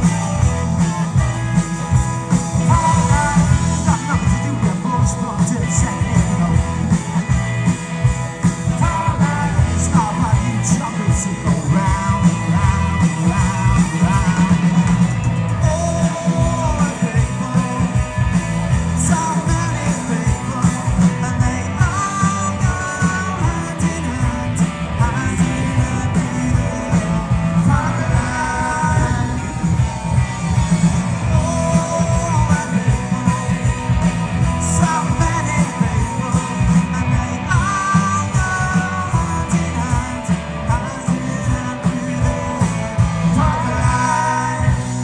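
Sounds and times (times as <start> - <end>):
live rock band playing: 0.0 - 45.0
person singing: 2.3 - 45.0.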